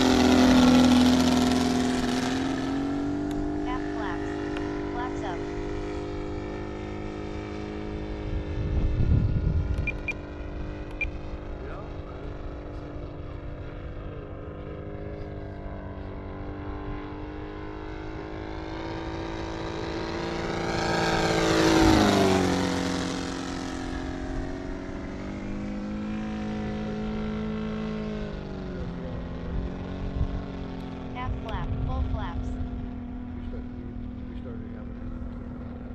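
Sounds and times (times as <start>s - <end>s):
model plane engine drone: 0.0s - 35.9s.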